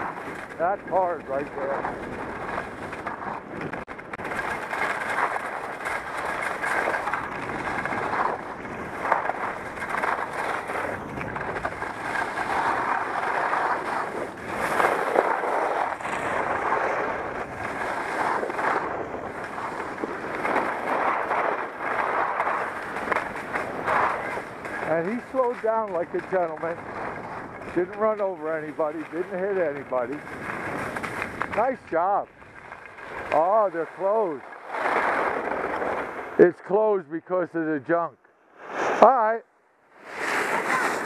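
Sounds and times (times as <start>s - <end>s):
skis scraping on hard snow: 0.0s - 41.0s.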